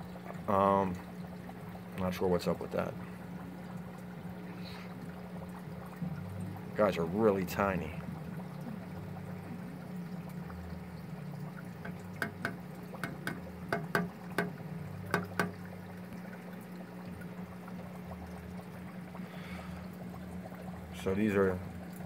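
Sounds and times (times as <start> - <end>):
aquarium water trickling: 0.0 - 22.0
low electric hum: 0.0 - 22.0.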